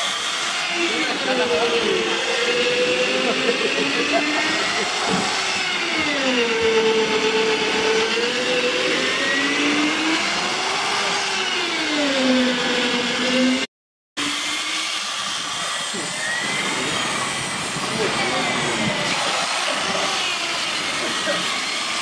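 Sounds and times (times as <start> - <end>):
motor whining: 0.0 - 22.0.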